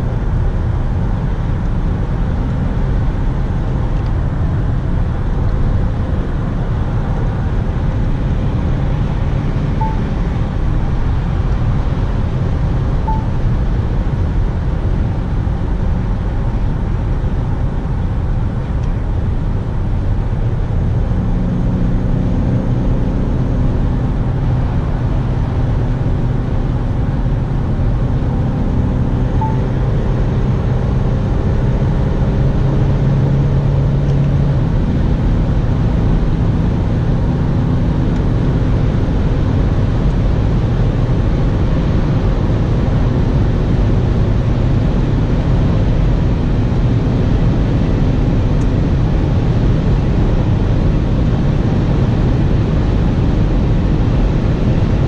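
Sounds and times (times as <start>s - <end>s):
car engine drone: 0.0s - 55.0s
road and tyre rumble: 0.0s - 55.0s.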